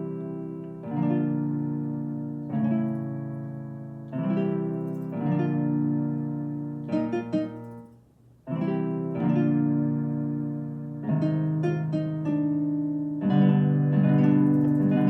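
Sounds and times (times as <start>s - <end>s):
digital piano chords: 0.0s - 15.0s.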